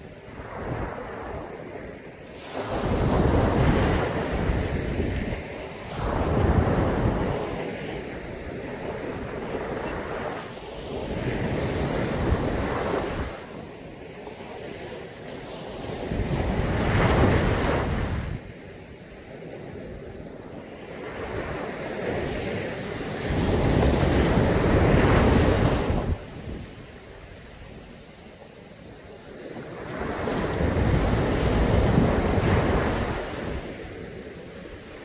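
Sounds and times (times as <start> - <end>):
surf breaking on a beach: 0.0 - 35.0.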